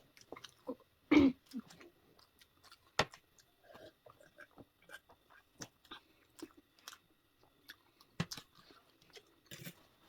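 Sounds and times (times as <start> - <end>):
crunching chewing clicks: 0.0 - 0.7, 1.5 - 9.8.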